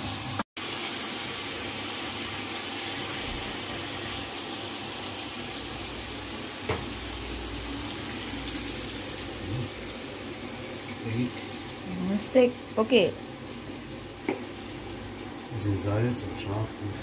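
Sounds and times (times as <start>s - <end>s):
meat sizzling in a grill pan: 0.0s - 17.0s.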